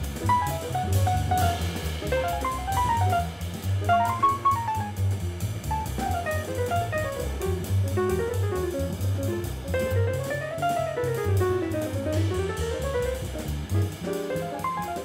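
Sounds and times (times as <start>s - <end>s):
double bass: 0.0s - 15.0s
drum kit with cymbal: 0.0s - 15.0s
fast acoustic jazz: 0.0s - 15.0s.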